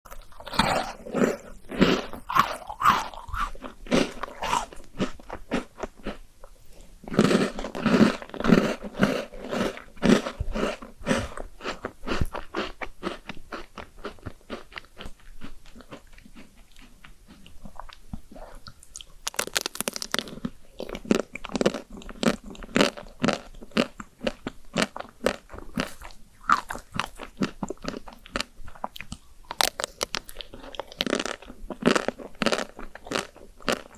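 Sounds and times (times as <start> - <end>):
crunchy cookies being chewed: 0.1 - 33.9.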